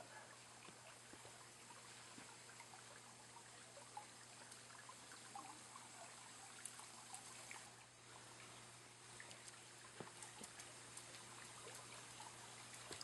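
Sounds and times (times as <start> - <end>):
shallow water trickling: 0.0 - 13.0
water drips and ripples: 0.0 - 13.0.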